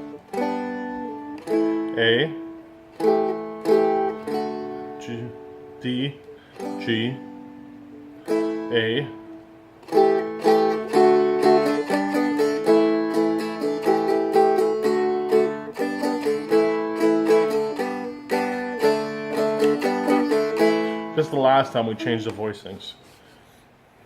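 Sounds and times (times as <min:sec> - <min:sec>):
dulcimer strumming: 0:00.0 - 0:23.2.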